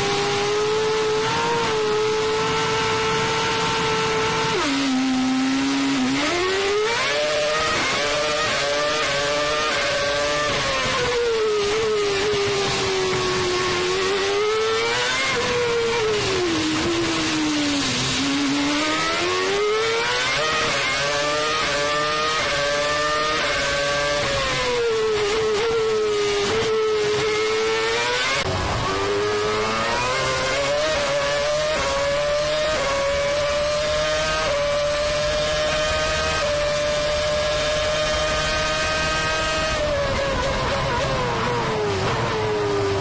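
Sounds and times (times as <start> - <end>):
racing car engine: 0.0 - 43.0.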